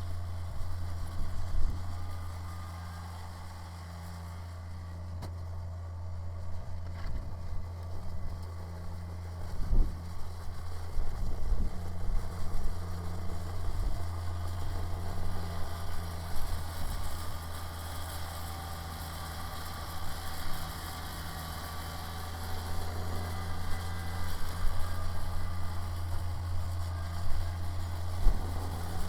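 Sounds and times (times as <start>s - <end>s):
snow blower low rumble: 0.0s - 29.0s
tractor diesel engine running: 0.0s - 29.0s.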